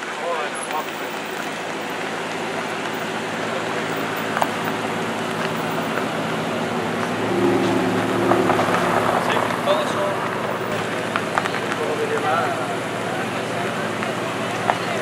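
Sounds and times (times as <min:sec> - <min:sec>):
sports car engine passing slowly: 0:00.4 - 0:15.0.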